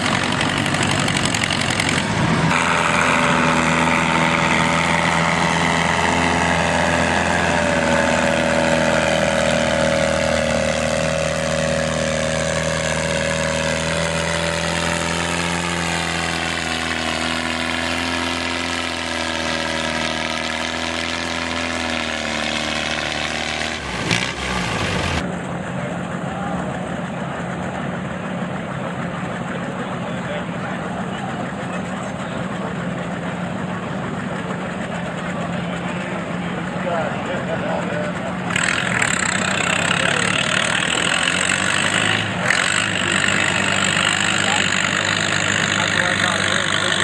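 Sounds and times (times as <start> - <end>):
tractor engine under heavy load: 0.0 - 47.0.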